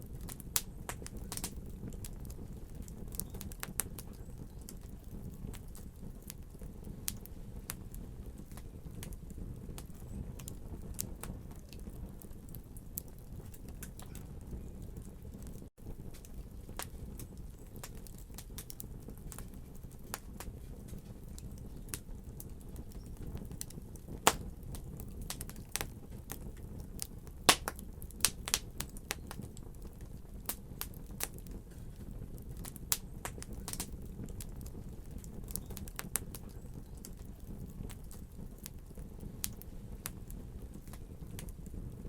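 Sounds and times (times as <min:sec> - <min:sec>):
fire crackling in a fireplace: 0:00.0 - 0:42.0.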